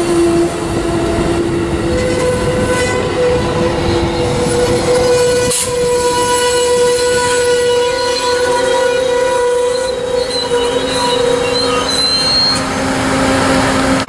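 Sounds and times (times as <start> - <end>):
train wheels rumbling on rail: 0.0 - 14.0
wheel squeal: 1.9 - 14.0.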